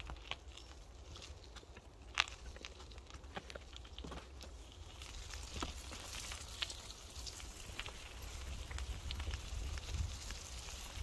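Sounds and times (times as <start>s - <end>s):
bicycle tyres clicking and crackling: 0.0s - 11.0s.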